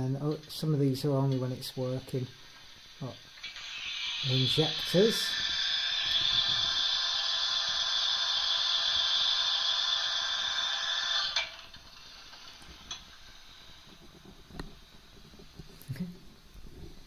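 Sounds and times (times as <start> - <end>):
steady steam hiss from speaker: 0.0 - 17.0.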